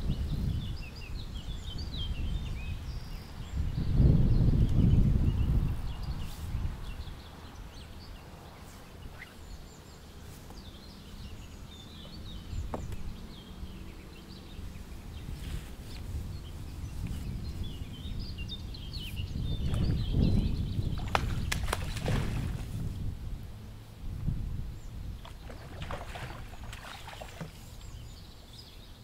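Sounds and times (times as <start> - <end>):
small birds chirping: 0.0 - 23.0, 24.7 - 29.0
wind rumble on microphone: 0.0 - 29.0.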